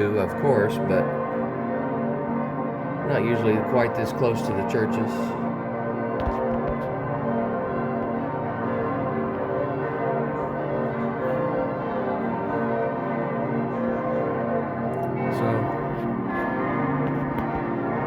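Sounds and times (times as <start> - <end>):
church bells pealing: 0.0 - 18.0.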